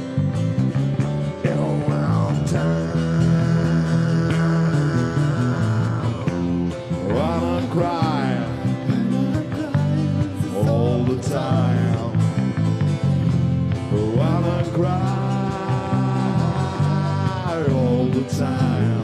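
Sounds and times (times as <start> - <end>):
electric bass line: 0.0 - 19.0
strummed acoustic guitar: 0.0 - 19.0
man singing: 1.2 - 12.7, 13.7 - 19.0.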